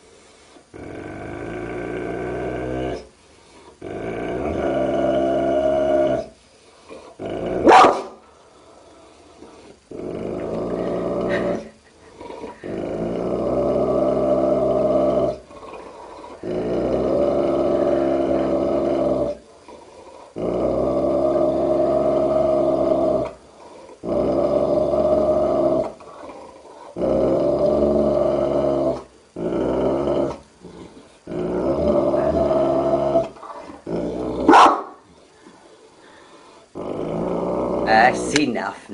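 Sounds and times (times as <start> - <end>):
large dog growling: 0.7 - 38.4.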